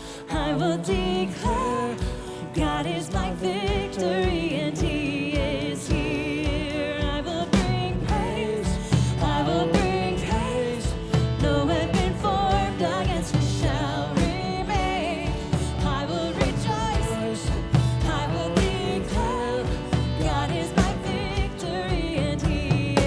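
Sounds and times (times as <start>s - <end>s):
people singing: 0.0s - 23.0s
worship band playing: 0.0s - 23.0s.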